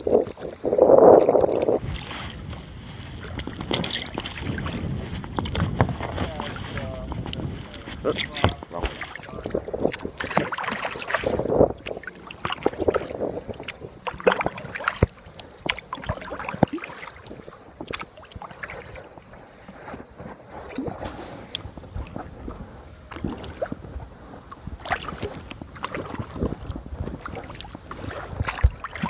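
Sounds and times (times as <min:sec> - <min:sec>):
paddle splashing in water: 0:00.0 - 0:29.0.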